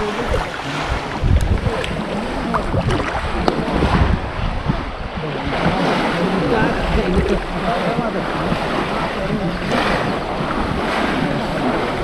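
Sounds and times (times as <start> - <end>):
water sloshing and splashing: 0.0 - 12.0
wind rumbling on microphone: 0.0 - 12.0.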